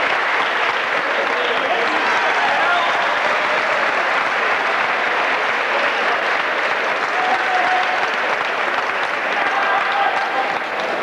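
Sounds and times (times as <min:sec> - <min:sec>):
crowd cheering: 0:00.0 - 0:11.0
crowd clapping: 0:00.0 - 0:11.0.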